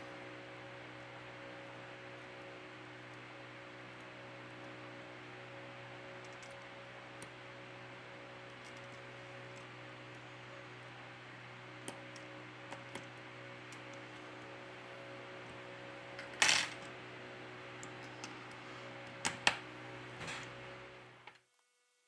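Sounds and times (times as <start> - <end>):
steady low electrical hum: 0.0 - 22.0.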